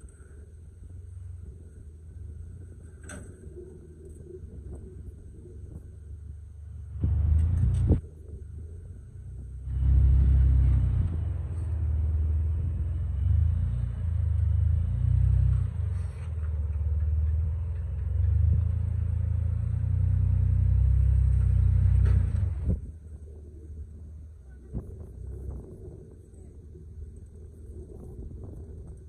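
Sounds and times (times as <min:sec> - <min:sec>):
engine rumbling at low revs: 0:00.0 - 0:29.0.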